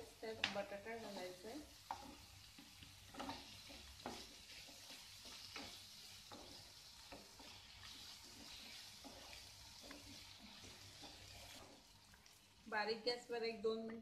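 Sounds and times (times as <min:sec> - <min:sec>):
faint sizzle of frying: 0:00.0 - 0:14.0
wooden spatula scraping pan: 0:00.4 - 0:11.9.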